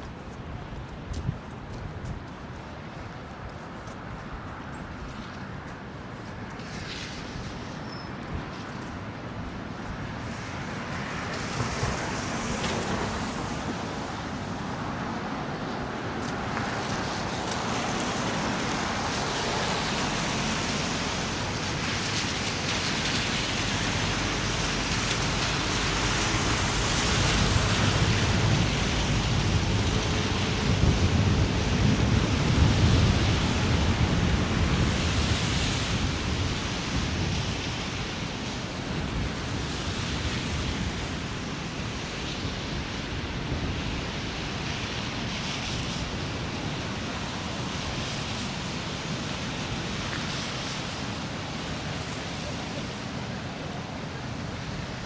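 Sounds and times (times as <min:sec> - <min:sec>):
traffic hiss on slushy road: 0:00.0 - 0:55.0
wind: 0:00.0 - 0:55.0
vehicles passing close by: 0:09.8 - 0:55.0.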